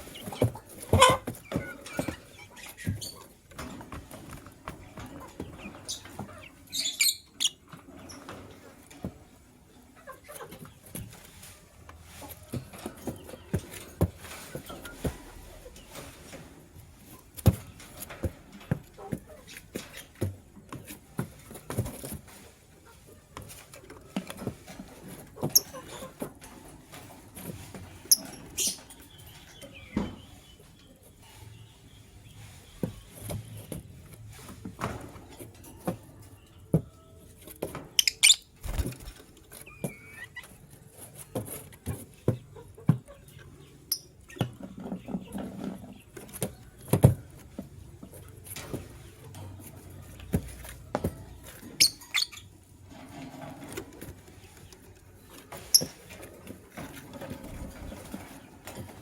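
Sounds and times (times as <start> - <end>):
birds clicking and tapping in cage: 0.0 - 59.0.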